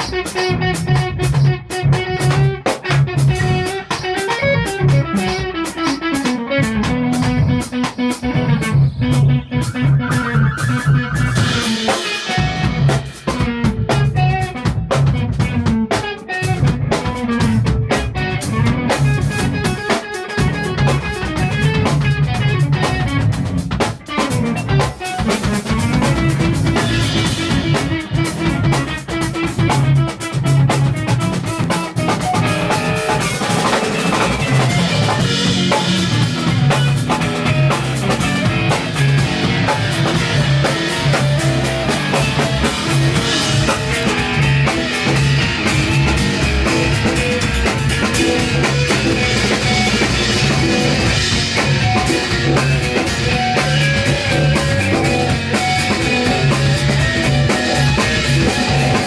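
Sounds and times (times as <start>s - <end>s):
electric guitar lines: 0.0s - 59.0s
rock band playing live: 0.0s - 59.0s.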